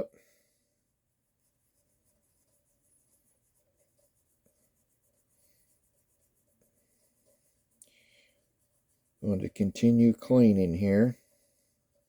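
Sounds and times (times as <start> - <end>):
faint rhythmic rubbing strokes: 0.0 - 12.0.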